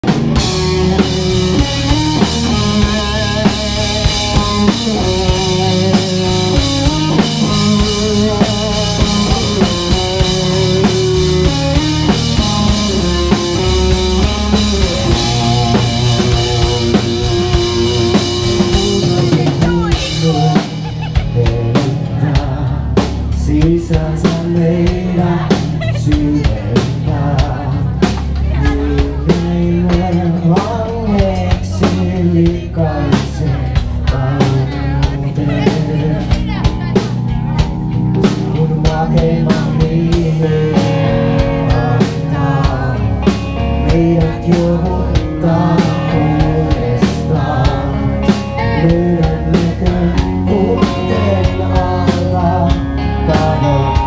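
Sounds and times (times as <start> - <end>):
bass line: 0.0 - 54.0
drum kit beating: 0.0 - 54.0
held guitar chords: 0.0 - 54.0.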